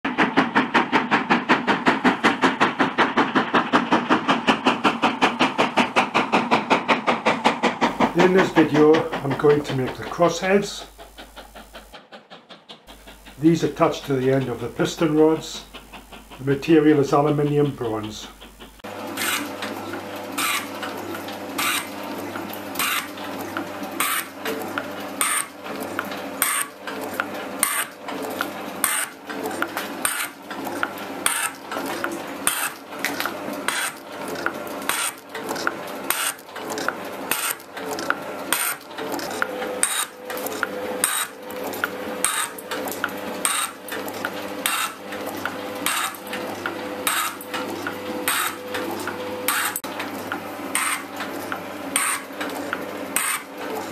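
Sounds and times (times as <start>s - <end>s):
shaping machine clacking: 0.0s - 53.9s
machine hum: 7.3s - 53.9s.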